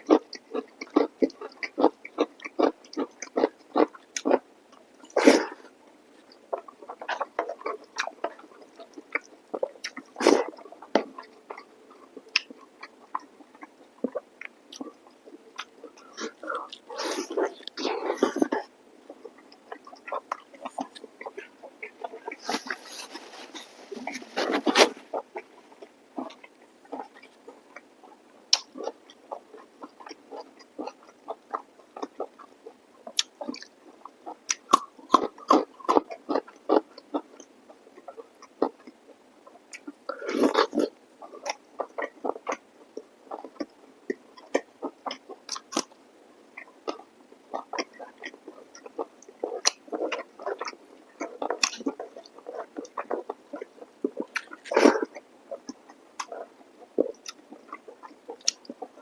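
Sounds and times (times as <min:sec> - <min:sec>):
wet chewing mouth clicks: 0:00.0 - 0:04.4, 0:06.6 - 0:11.7, 0:12.3 - 0:39.0, 0:39.7 - 0:46.0, 0:46.6 - 0:59.0.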